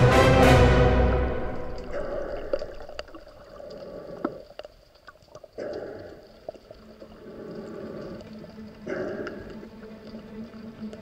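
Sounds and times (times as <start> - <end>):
muffled underwater water noise: 1.1 - 11.0.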